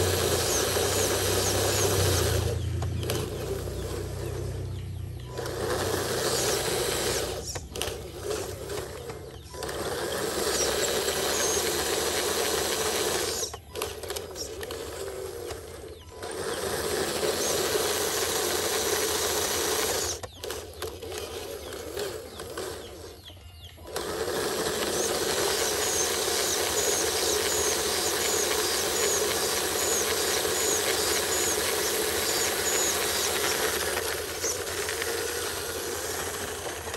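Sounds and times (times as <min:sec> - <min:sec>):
toy truck electric motor whirring: 0:00.0 - 0:36.9.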